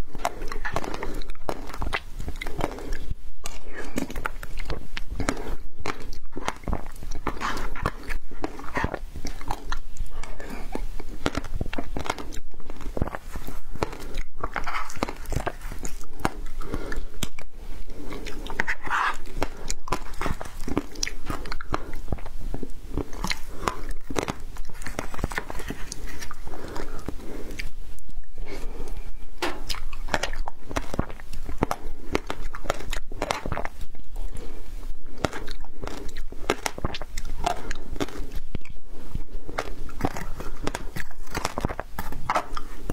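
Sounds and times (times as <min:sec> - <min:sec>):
person crunching frozen ice: 0:00.0 - 0:27.8, 0:28.5 - 0:42.9.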